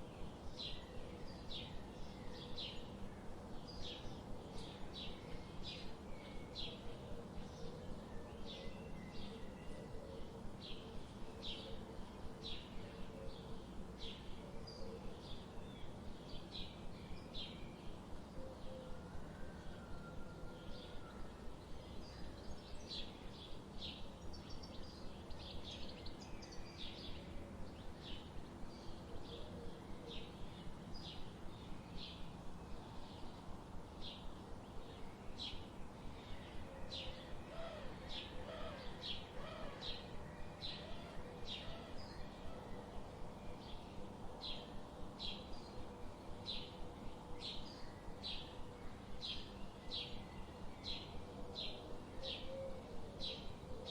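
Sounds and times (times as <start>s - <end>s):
lower birdsong: 0.0s - 53.9s
soft background hiss: 0.0s - 53.9s.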